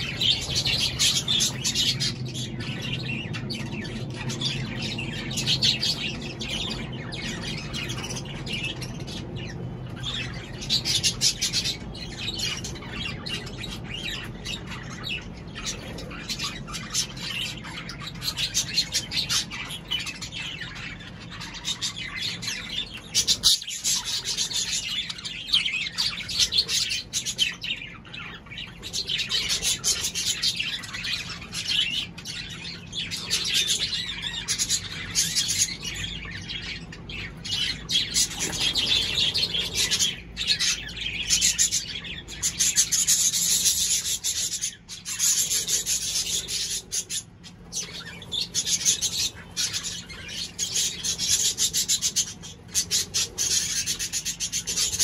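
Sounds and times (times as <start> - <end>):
cockatiels chirping: 0.0 - 55.0.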